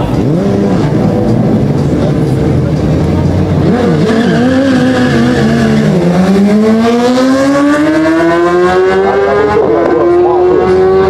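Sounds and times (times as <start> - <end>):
motorcycle accelerating hard: 0.0 - 11.0
motorcycle engines revving: 0.0 - 11.0.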